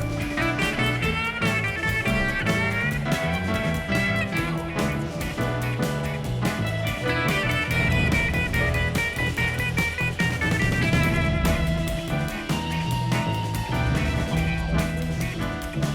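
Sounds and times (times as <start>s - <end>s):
guitar-led music with beat: 0.0s - 15.9s.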